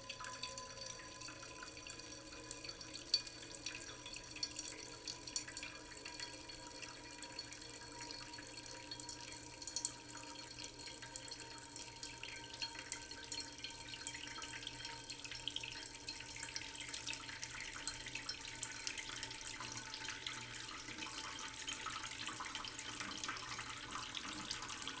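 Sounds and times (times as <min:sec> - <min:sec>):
tap water splashing into pot: 0:00.0 - 0:25.0.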